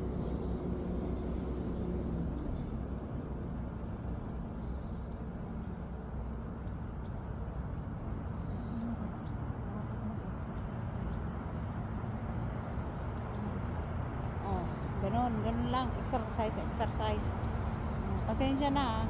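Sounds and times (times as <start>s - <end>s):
small birds chirping: 0.0s - 1.3s, 2.3s - 3.1s, 4.0s - 19.0s
low background rumble: 0.0s - 19.0s.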